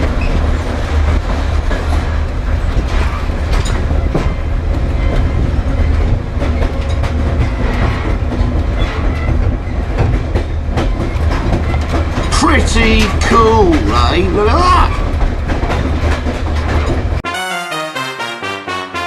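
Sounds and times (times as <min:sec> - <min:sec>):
wheels clattering over rails: 0:00.0 - 0:17.2
train rumbling: 0:00.0 - 0:19.0.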